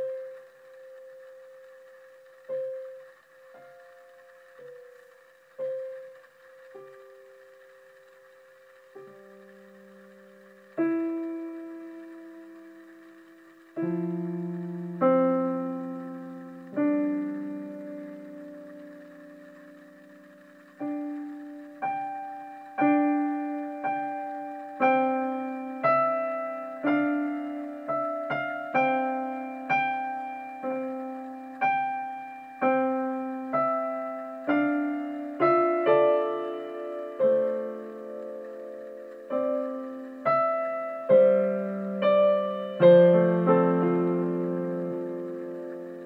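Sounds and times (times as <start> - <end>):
slow solo piano music: 0.0 - 46.0.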